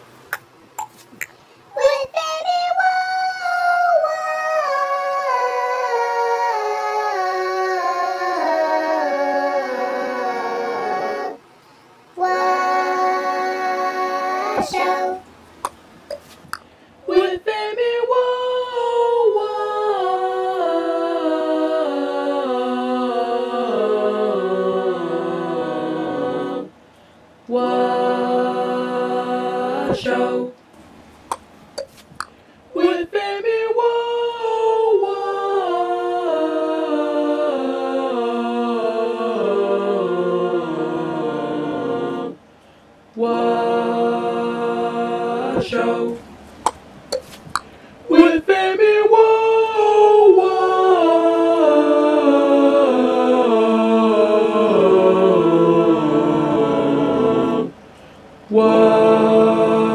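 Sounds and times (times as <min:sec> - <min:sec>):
pitch-shifted singing voice: 0:00.0 - 0:26.8, 0:27.4 - 0:42.5, 0:43.1 - 0:59.9.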